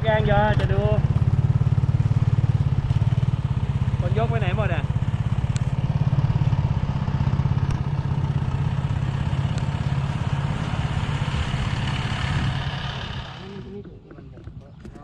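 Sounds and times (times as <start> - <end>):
small engine running: 0.2 - 13.8.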